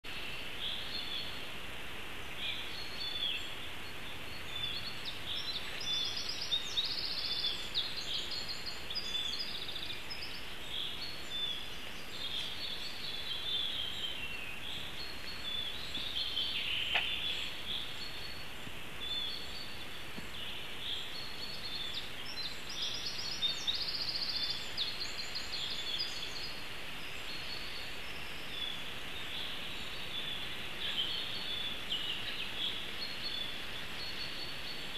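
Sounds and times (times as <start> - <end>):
songbirds singing: 0.0 - 34.9
steady hiss: 0.1 - 34.9.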